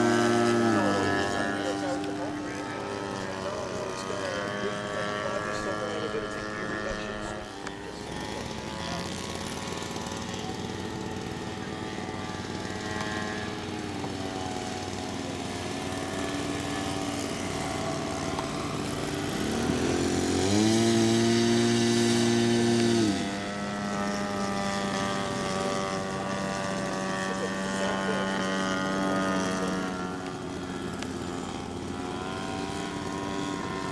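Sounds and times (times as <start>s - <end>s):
model airplane engines running: 0.0s - 33.9s.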